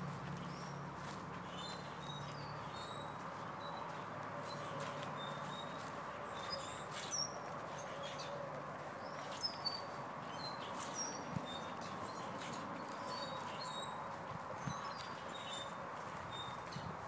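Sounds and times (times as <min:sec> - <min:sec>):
outdoor background noise: 0:00.0 - 0:17.0
songbirds chirping: 0:00.0 - 0:17.0.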